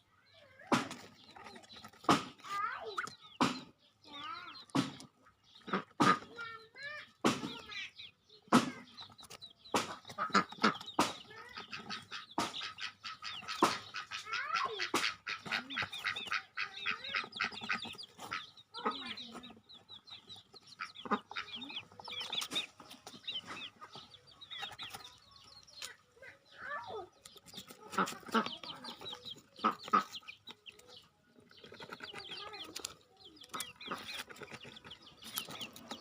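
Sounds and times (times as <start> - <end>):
birds chirping and clucking: 0.0 - 36.0.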